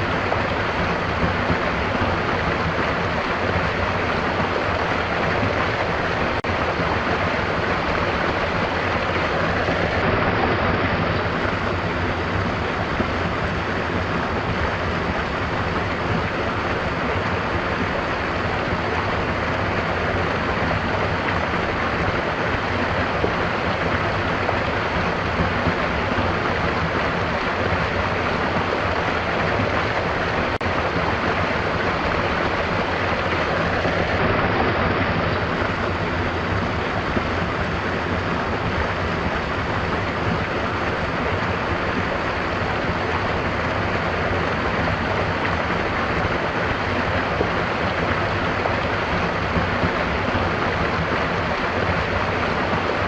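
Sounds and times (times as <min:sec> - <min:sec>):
stream water running: 0:00.0 - 0:53.0.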